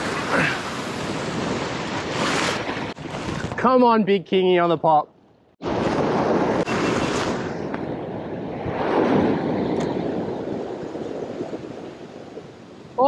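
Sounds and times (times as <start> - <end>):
wind on microphone: 0.0 - 3.6, 5.6 - 13.0.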